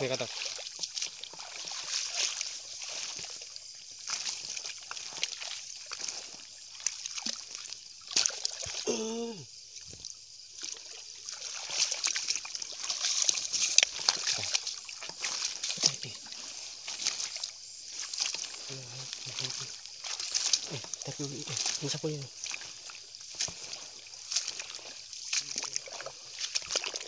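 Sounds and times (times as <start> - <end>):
water sloshing from wading: 0.0 - 27.0.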